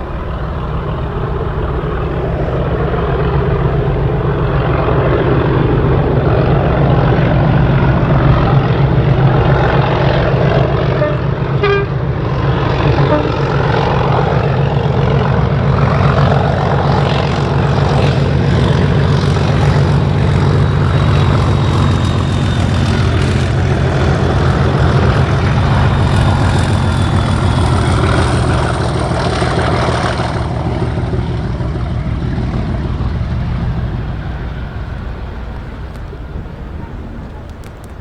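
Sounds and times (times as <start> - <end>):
diesel locomotive engines droning: 0.0 - 38.0.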